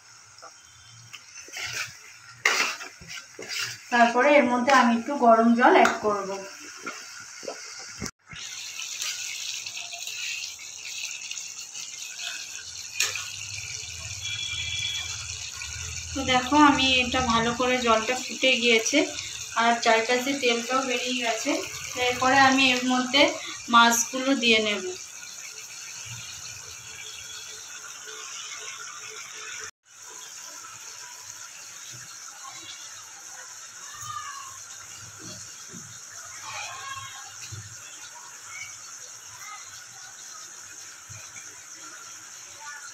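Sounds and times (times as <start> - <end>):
gravy hissing and sizzling: 0.0 - 42.9
water poured into hot pan: 0.0 - 42.9.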